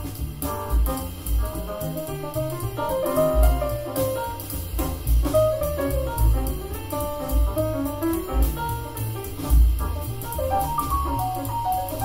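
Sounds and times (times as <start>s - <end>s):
deep bass notes: 0.0s - 12.0s
instrumental jazz over speakers: 0.0s - 12.0s.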